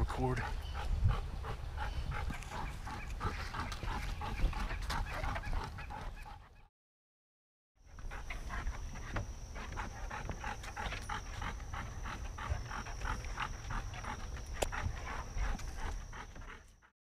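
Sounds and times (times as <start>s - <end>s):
dog panting: 0.0s - 6.7s, 7.9s - 16.9s.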